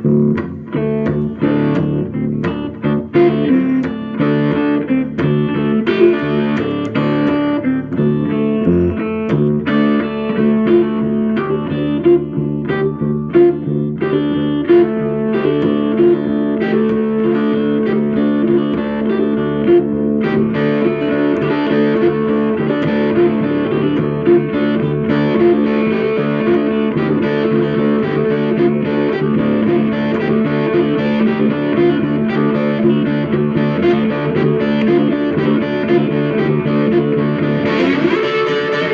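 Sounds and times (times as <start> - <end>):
guitar music: 0.0 - 38.9.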